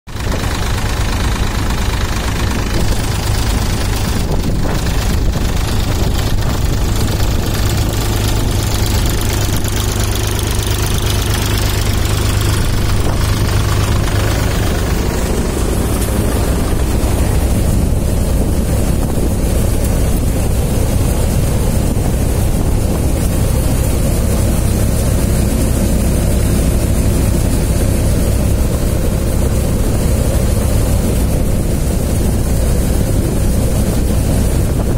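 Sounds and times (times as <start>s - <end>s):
threshing machine whirring: 0.1s - 34.9s
tractor engine running: 0.1s - 34.9s.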